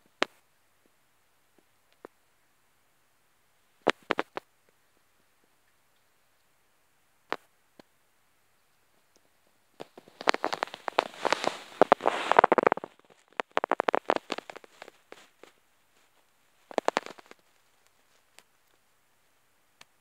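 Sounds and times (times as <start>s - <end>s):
crackling rustle of rapid clicks: 0.0s - 2.2s, 3.8s - 6.5s, 8.6s - 20.0s.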